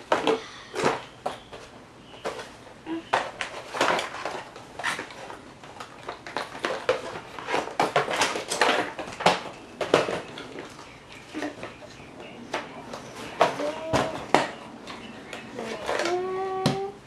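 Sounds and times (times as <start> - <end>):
packaging rustling and scraping: 0.0 - 16.5.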